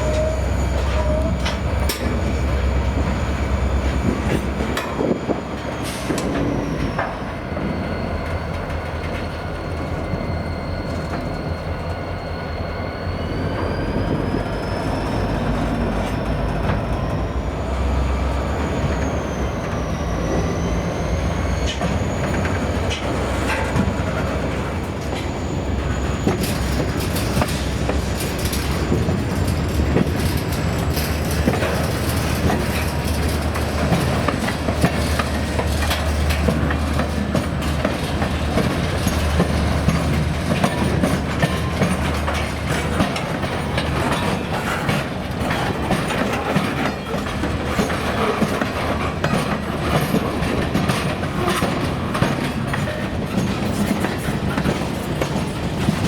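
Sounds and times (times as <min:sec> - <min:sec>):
train wheels clattering over track: 0:00.0 - 0:56.0.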